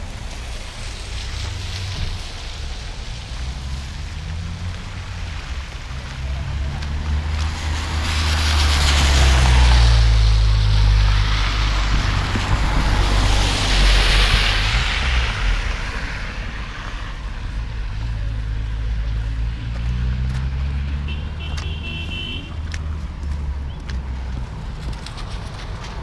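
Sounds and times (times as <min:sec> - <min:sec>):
tyre hiss of passing vehicles: 0:00.0 - 0:26.0.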